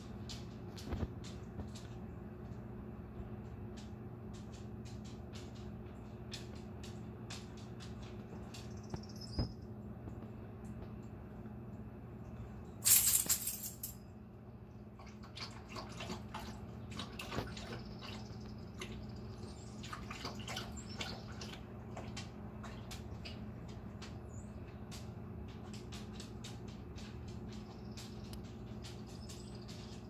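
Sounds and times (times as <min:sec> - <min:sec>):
birds chirping and clicking: 0:00.0 - 0:12.4, 0:14.7 - 0:30.0
steady low hum: 0:00.0 - 0:30.0.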